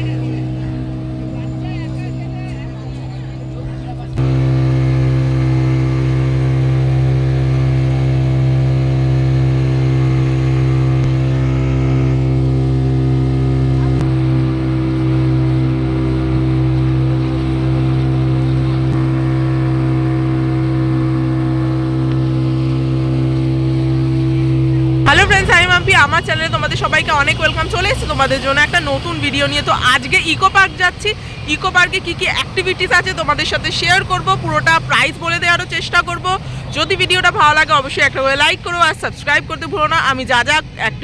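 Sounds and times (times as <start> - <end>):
water rushing: 0.0 - 39.7
speedboat engine droning: 0.0 - 41.0.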